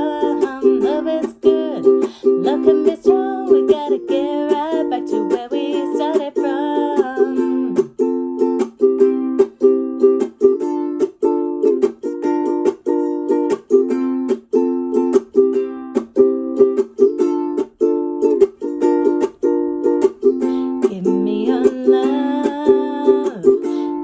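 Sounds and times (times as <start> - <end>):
ukulele strumming: 0.0 - 24.0.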